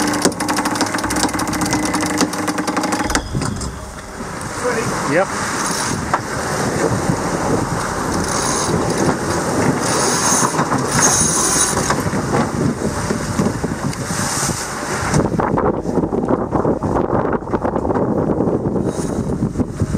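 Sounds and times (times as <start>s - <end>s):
water rushing along a hull: 0.0s - 19.9s
wind buffeting microphone: 0.0s - 19.9s.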